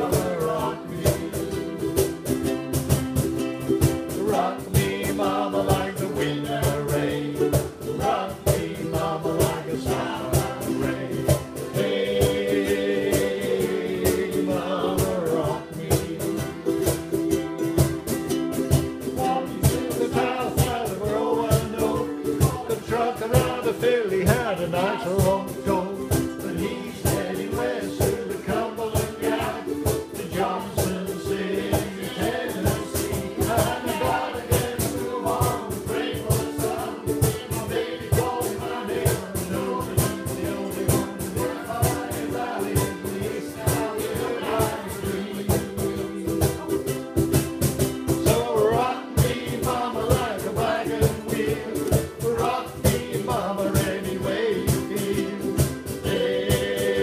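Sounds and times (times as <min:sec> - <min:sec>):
group singing along: 0:00.0 - 0:57.0
ukuleles strumming: 0:00.0 - 0:57.0
accordion chords: 0:03.3 - 0:57.0.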